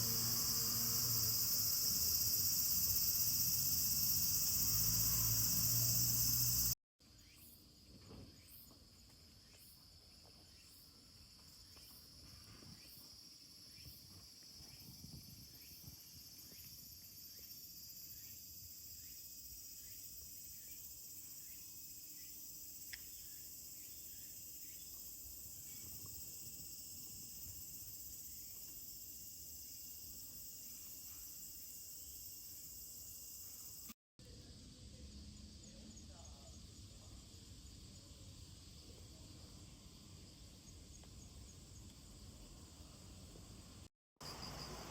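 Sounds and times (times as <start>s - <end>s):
insect chorus chirring: 0.0s - 44.9s.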